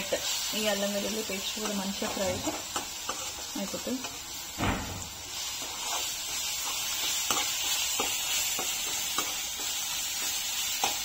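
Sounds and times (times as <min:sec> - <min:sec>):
stirring strokes against pan: 0:00.0 - 0:04.5, 0:05.2 - 0:11.0
onions sizzling in hot oil: 0:00.0 - 0:11.0.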